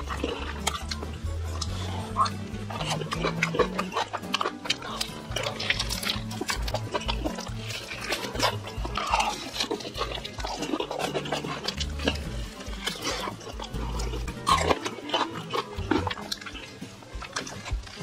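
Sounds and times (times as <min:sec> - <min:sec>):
background music with low beat: 0:00.0 - 0:18.0
man chewing and slurping: 0:00.0 - 0:18.0.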